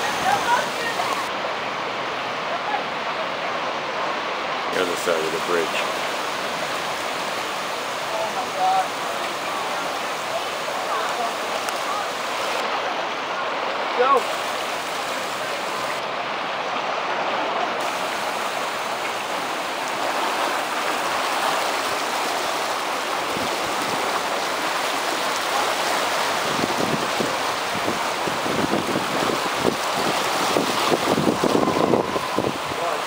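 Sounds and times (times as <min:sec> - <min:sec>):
river floodwater rushing: 0:00.0 - 0:33.0.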